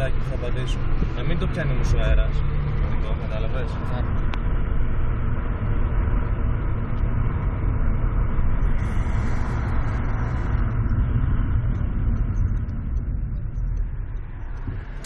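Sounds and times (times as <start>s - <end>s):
deep engine and road rumble: 0.0s - 15.0s.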